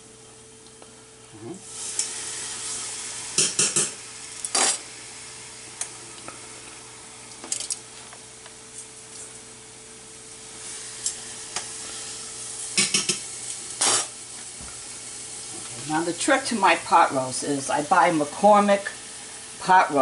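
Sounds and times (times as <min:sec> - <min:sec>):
faint steady hum: 0:00.0 - 0:20.0
meat sizzling in hot oil: 0:01.6 - 0:07.9, 0:10.3 - 0:20.0.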